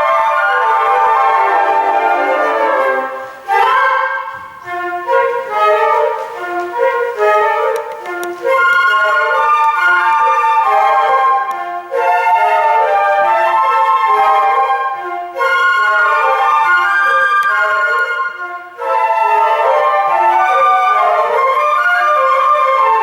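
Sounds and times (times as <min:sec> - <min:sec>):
flute ensemble playing chords: 0:00.0 - 0:23.0.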